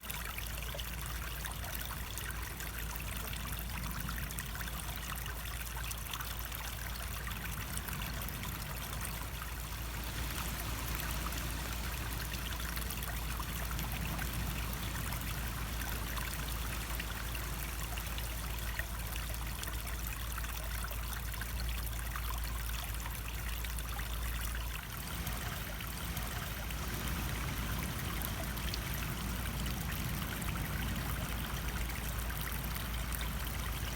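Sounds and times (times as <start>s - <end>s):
stream water trickling: 0.0s - 33.9s.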